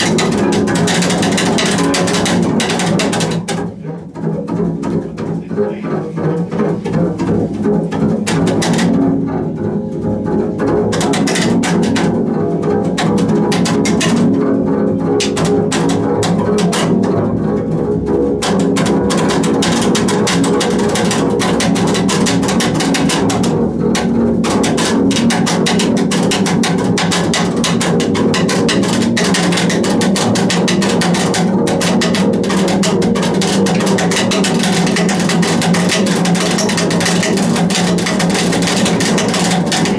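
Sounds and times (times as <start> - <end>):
rapid scraping chatter: 0.0 - 12.2, 18.4 - 39.9
bowed double bass drone: 0.0 - 39.9.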